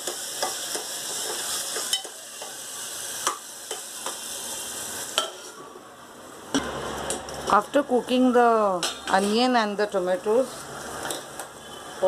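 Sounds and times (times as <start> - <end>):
vegetables sizzling in hot oil: 0.0 - 5.7, 6.6 - 12.0.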